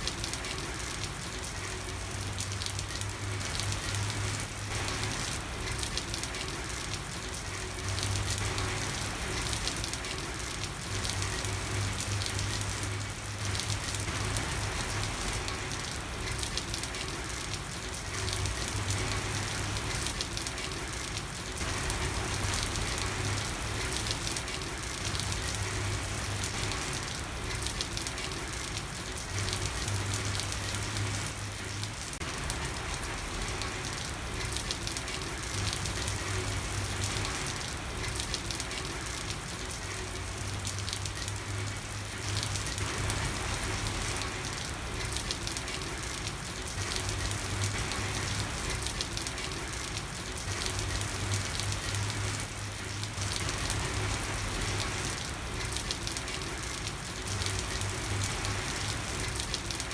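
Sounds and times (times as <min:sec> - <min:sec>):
rain falling on a street: 0:00.0 - 0:59.9.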